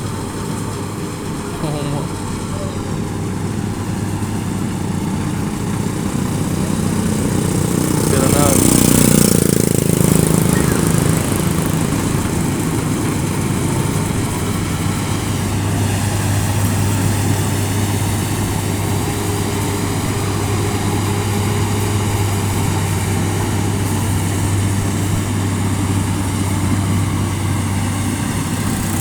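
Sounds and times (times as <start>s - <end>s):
farm machinery engine humming: 0.0s - 29.0s.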